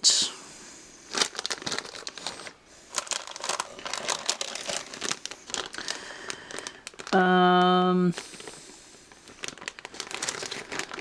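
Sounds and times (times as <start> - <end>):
plastic packaging crinkling: 1.1 - 11.0.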